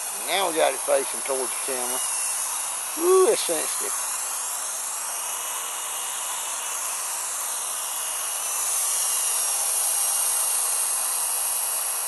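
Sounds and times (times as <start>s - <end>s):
toy helicopter rotors whirring: 0.0s - 12.0s.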